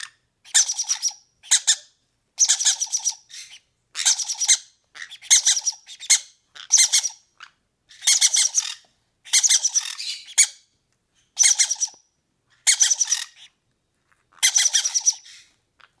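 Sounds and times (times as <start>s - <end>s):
chicks buzzy begging chirps: 0.0s - 1.8s, 2.4s - 10.7s, 11.4s - 12.0s, 12.6s - 13.6s, 14.3s - 15.5s.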